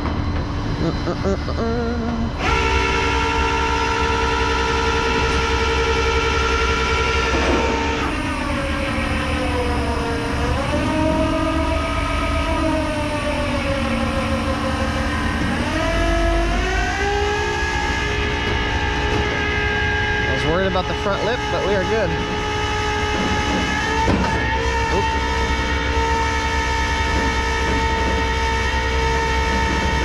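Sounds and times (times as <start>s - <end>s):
hydraulics whining under load: 0.0s - 30.0s.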